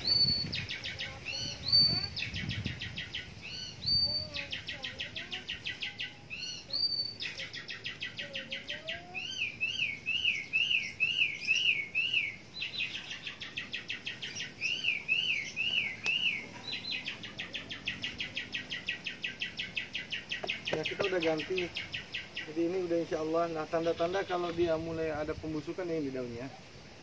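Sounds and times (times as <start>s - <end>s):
quick up-and-down bird chirps: 0.0s - 22.6s
birds singing high repeated notes: 0.0s - 27.0s.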